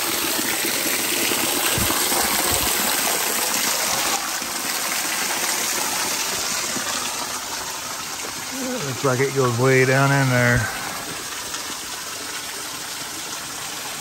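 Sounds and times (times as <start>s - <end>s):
small waterfall splashing on rock: 0.0s - 14.0s.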